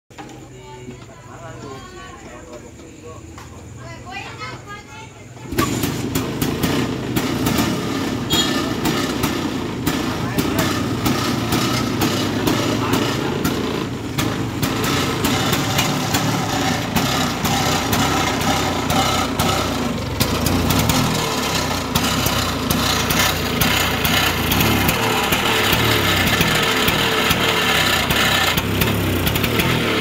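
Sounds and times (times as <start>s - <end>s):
scooter engine idling: 0.2s - 30.0s.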